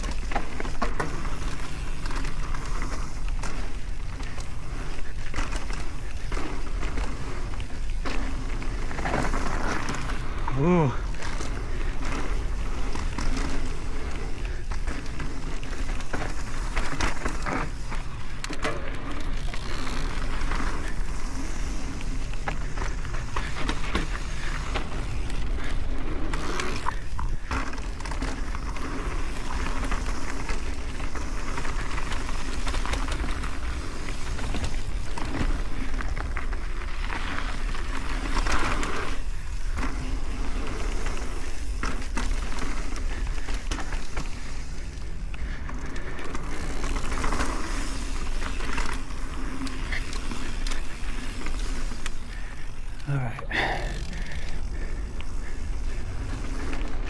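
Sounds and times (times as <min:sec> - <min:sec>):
bike clicks and rattles: 0:00.0 - 0:57.0
bike tyres on dirt: 0:00.0 - 0:57.0.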